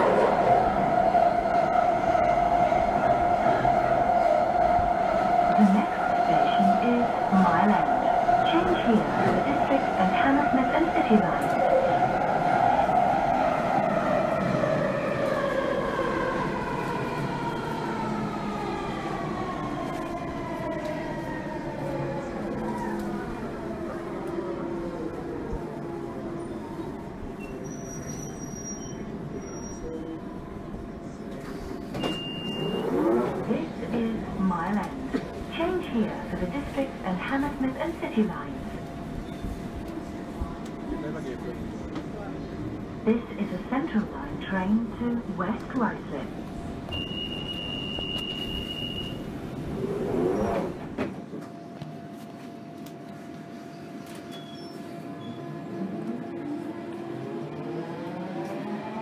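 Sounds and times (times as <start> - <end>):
underground train rumble: 0.0 - 59.0.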